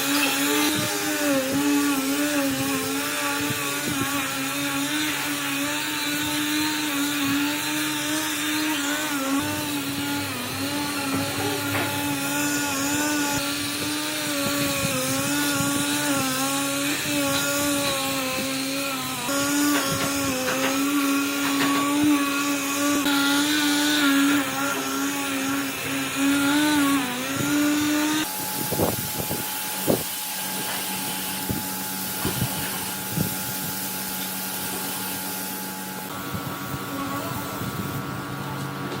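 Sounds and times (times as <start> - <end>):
electric power tool motor hum: 0.0 - 38.0.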